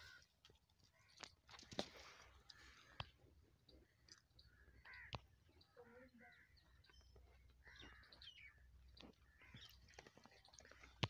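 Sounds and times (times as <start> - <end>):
faint bird chirps and caws: 0.0 - 11.0.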